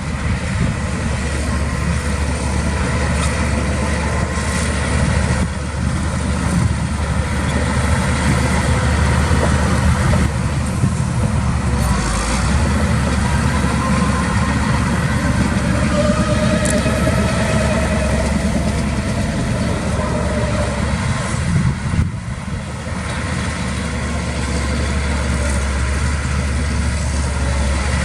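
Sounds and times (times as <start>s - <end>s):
heavy diesel engine rumbling: 0.0s - 28.0s.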